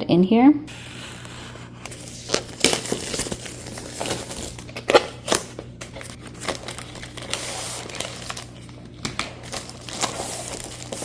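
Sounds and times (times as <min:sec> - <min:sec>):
packaging crinkling and rustling: 0:00.8 - 0:11.0.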